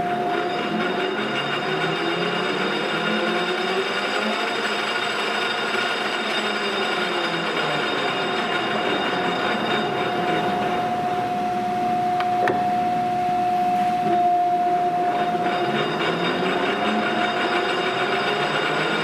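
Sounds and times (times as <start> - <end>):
lathe headstock gear whine: 0.0 - 19.0.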